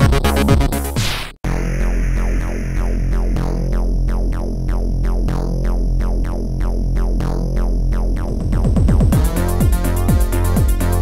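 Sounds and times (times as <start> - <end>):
drum-machine beat: 0.0 - 11.0
electronic music: 0.0 - 11.0
held bass: 1.4 - 11.0.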